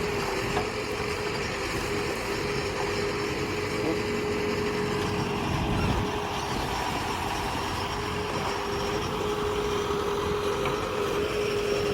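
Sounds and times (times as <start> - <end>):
constant whine: 0.0 - 11.9
excavator engine rumble: 0.0 - 11.9.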